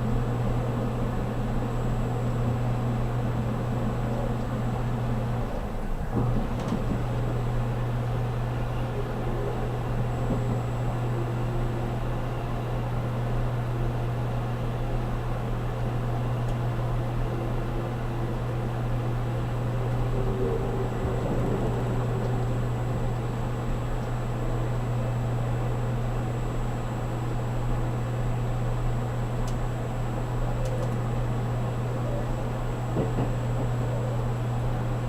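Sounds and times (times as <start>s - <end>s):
train interior hum and rumble: 0.0s - 35.0s.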